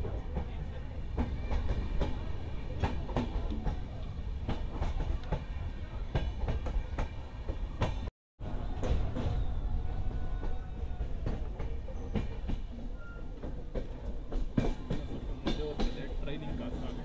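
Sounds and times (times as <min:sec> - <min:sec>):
train rumble: 0:00.0 - 0:17.0
train wheels clacking on rail joints: 0:00.0 - 0:17.0.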